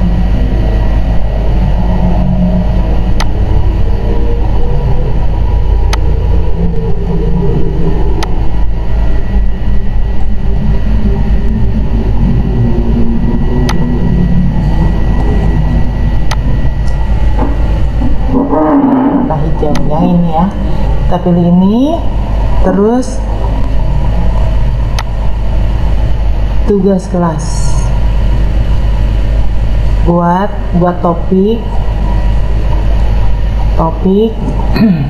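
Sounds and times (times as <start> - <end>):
low rumbling background noise: 0.0 - 35.0.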